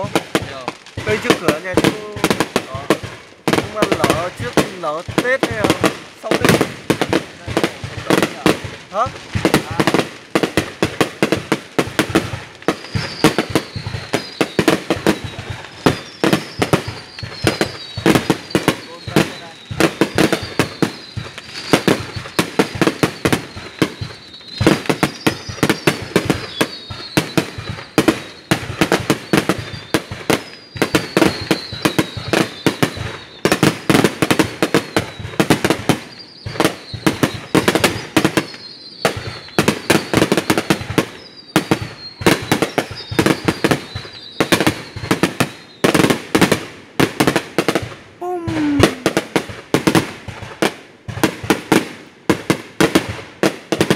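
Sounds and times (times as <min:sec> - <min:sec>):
fireworks bangs and crackling: 0:00.0 - 0:53.9
fireworks falling whistles: 0:00.0 - 0:53.9.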